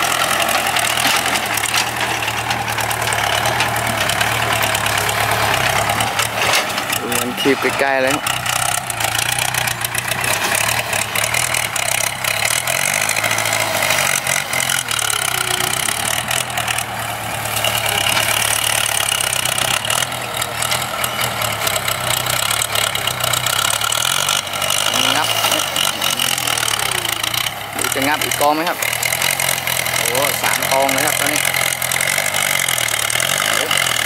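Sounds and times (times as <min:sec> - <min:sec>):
dense crackle of clicks: 0:00.0 - 0:07.0, 0:08.1 - 0:34.0
tractor diesel engine running: 0:00.0 - 0:34.0.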